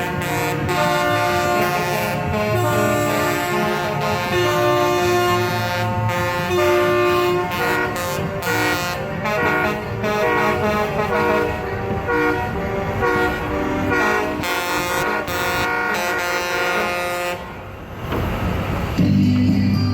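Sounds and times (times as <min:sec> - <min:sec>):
truck air horns blaring: 0:00.0 - 0:17.9
truck engines rumbling: 0:00.0 - 0:19.9.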